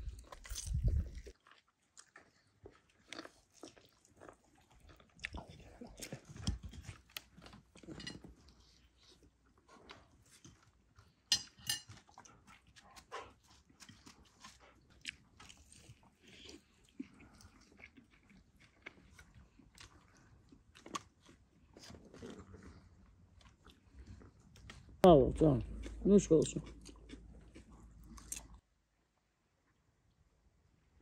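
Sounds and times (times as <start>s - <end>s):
crunchy food chewing: 0.0s - 25.0s, 25.6s - 28.6s.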